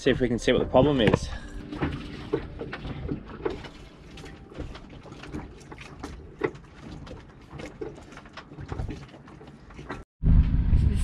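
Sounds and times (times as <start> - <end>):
objects being handled and clattering: 0.0 - 10.1.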